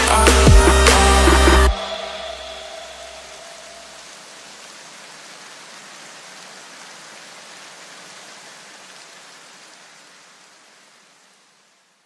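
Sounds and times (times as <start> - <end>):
steady hiss like rain: 0.0 - 12.0.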